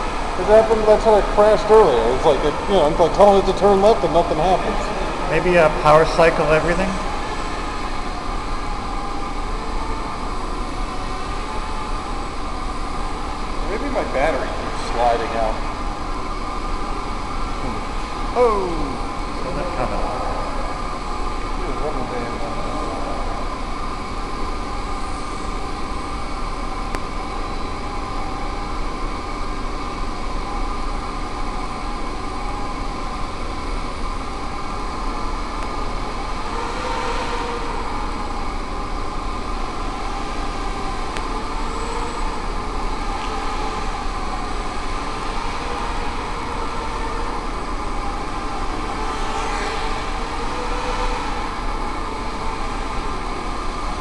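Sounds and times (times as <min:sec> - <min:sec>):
quadcopter propellers buzzing: 0:00.0 - 0:11.8, 0:13.6 - 0:25.7, 0:34.3 - 0:54.0.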